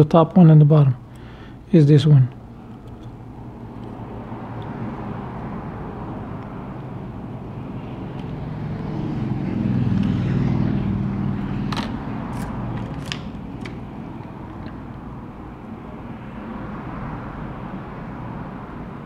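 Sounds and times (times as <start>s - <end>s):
vehicle engine hum passing: 2.2s - 19.0s.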